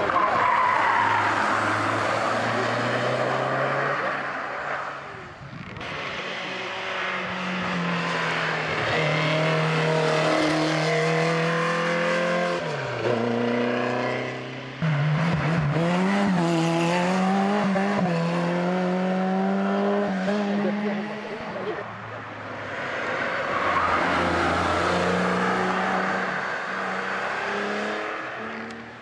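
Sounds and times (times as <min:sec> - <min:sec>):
racing car engines revving: 0:00.0 - 0:29.0.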